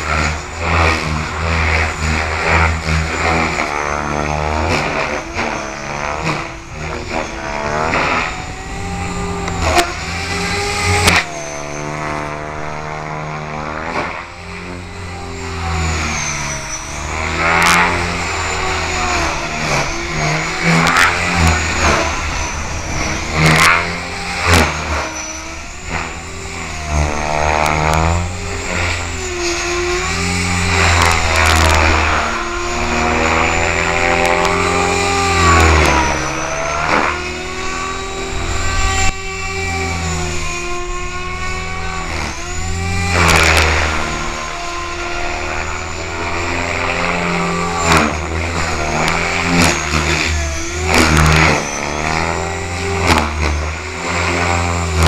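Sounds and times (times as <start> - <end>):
rc helicopter rotor whine: 0.0 - 55.0.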